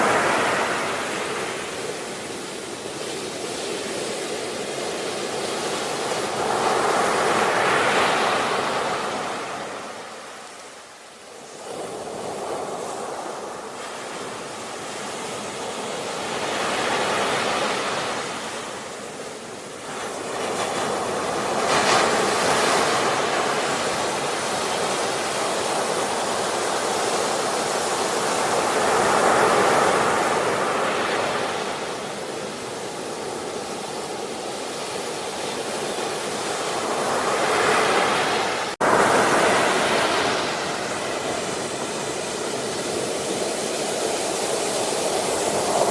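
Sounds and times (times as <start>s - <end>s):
sea waves breaking: 0.0s - 45.9s.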